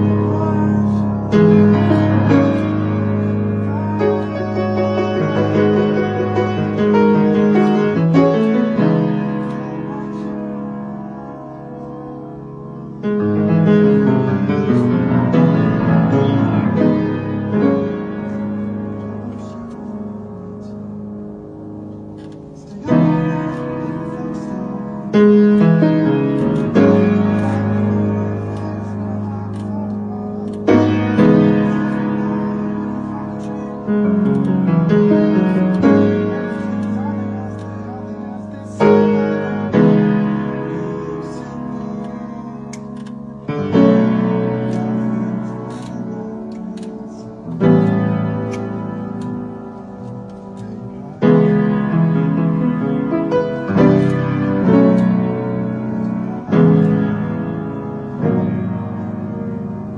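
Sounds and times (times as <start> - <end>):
piano chords: 0.0 - 59.9.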